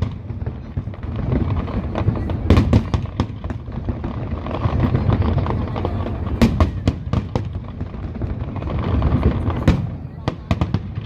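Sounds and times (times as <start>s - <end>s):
fireworks rumbling: 0.0s - 11.0s.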